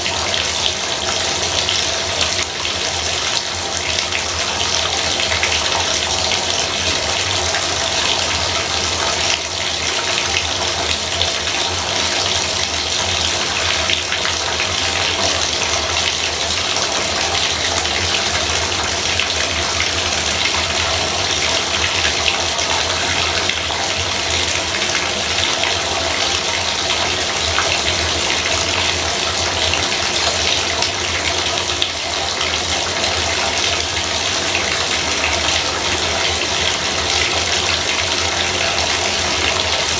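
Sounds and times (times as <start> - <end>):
bathtub faucet running: 0.0 - 39.9.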